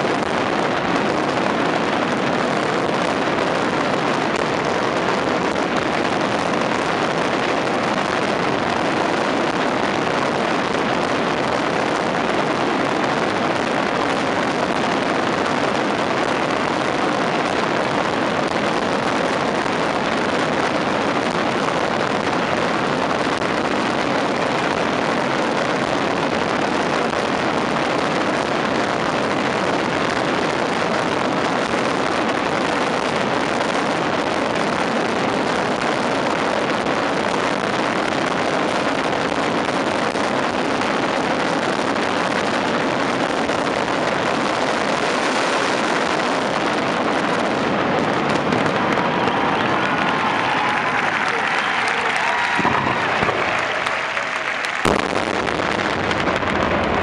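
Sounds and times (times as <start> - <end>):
firecrackers crackling: 0.0 - 57.0.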